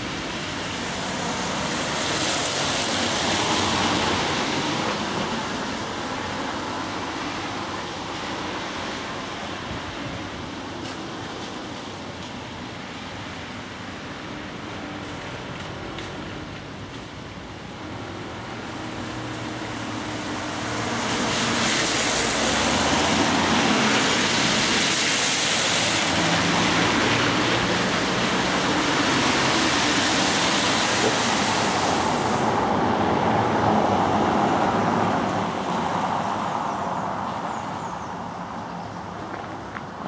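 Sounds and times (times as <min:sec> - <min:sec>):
car engines: 0:00.0 - 0:40.0
tyres hissing on wet road: 0:00.0 - 0:40.0.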